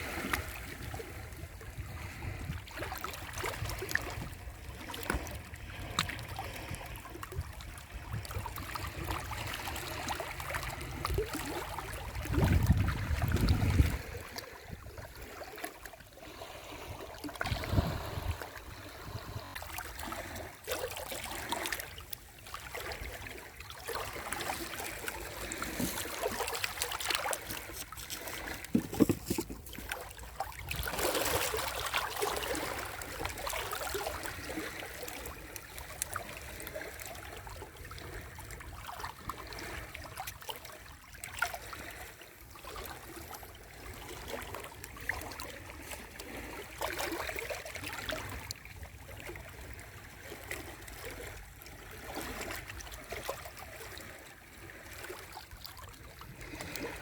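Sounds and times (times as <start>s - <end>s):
sea waves lapping at shore: 0.0s - 57.0s.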